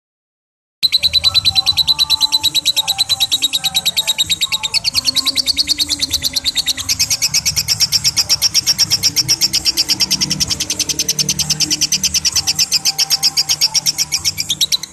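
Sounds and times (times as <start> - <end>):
bird chattering rapid high notes: 0.8 - 14.9.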